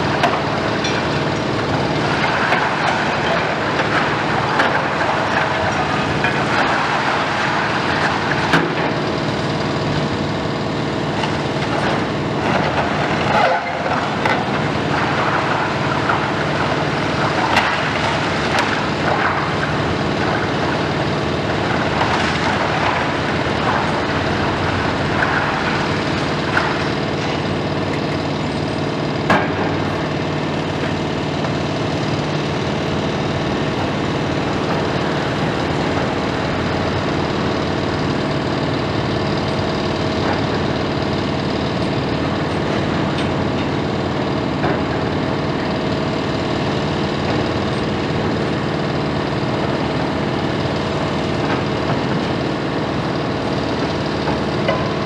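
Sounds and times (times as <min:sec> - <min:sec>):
diesel machinery running: 0:00.0 - 0:55.0
masonry cracking and crunching: 0:00.1 - 0:09.4, 0:10.0 - 0:55.0.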